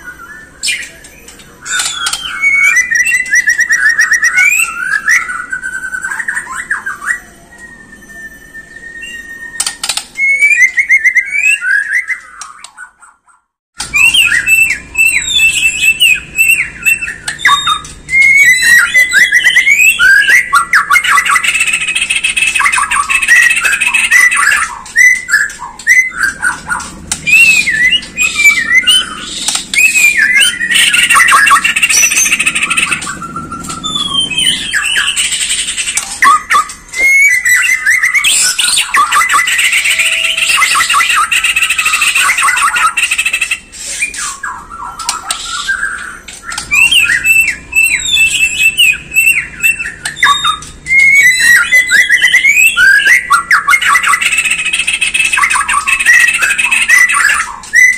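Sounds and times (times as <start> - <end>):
bird singing whistles and trills: 0.0 - 57.9.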